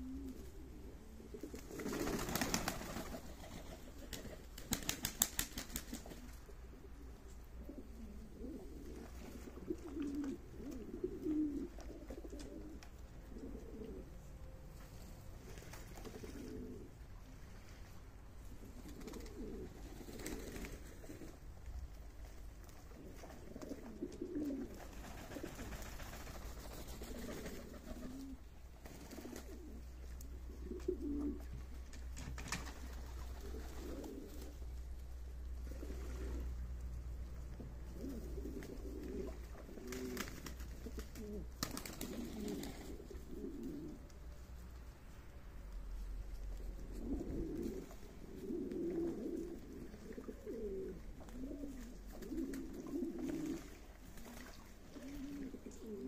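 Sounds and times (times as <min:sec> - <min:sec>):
pigeons cooing: 0:00.0 - 0:05.4, 0:06.0 - 0:14.4, 0:15.4 - 0:17.4, 0:18.5 - 0:21.5, 0:22.9 - 0:31.8, 0:32.7 - 0:34.7, 0:35.3 - 0:44.1, 0:46.5 - 0:56.0.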